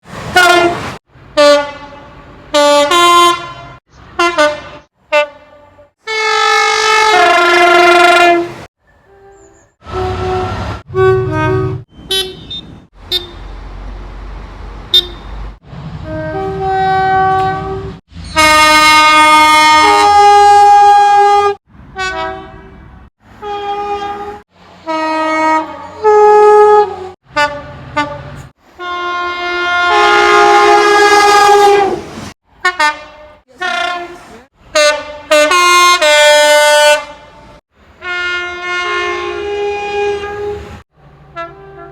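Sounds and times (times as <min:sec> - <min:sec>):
passing train rumble: 0:00.0 - 0:41.9
train horn blasts: 0:00.3 - 0:13.5, 0:14.9 - 0:15.3, 0:16.0 - 0:41.9.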